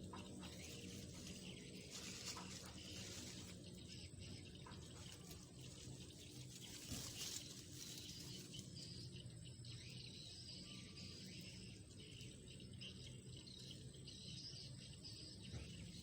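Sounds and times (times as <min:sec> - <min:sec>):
faint outdoor background noise: 0:00.0 - 0:16.0.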